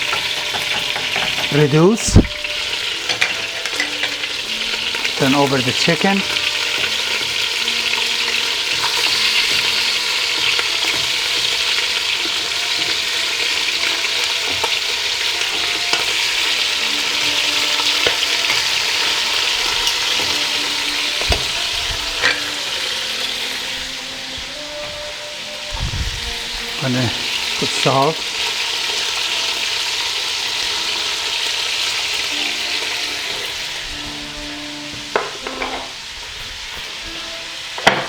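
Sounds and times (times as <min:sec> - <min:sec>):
chicken sizzling in hot oil: 0:00.0 - 0:38.0.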